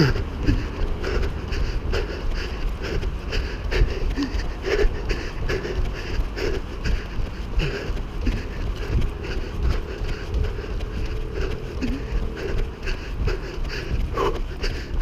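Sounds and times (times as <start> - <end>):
running footfalls: 0.0 - 15.0.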